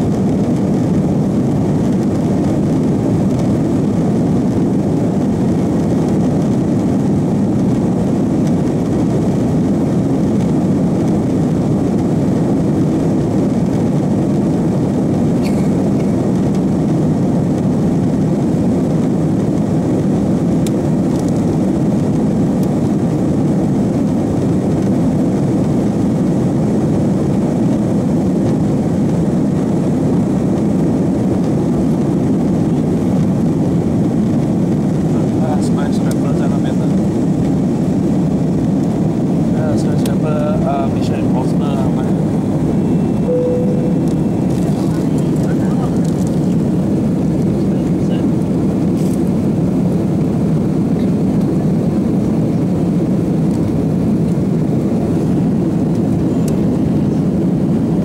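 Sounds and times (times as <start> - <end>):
aircraft cabin rumble while taxiing: 0.0 - 58.0.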